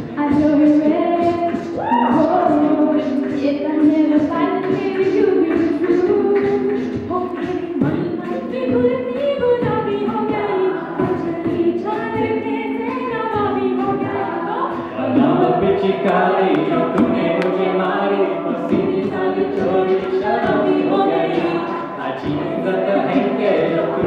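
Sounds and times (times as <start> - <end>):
a cappella group singing: 0.0 - 24.0.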